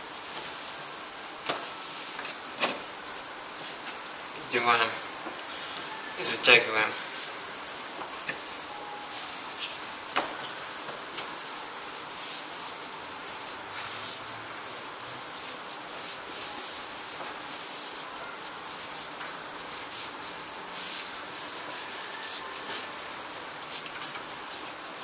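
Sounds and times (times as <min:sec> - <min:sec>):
rope rustling and scraping: 0:00.0 - 0:25.0
steady background hiss: 0:00.0 - 0:25.0.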